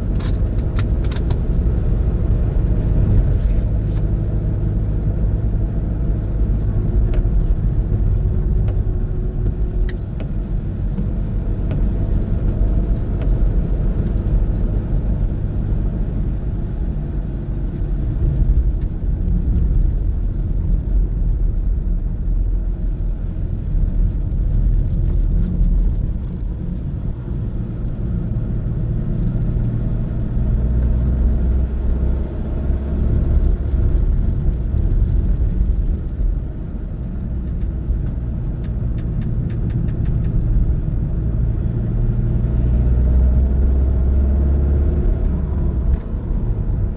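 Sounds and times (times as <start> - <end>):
car engine and tyre rumble: 0.0 - 46.9.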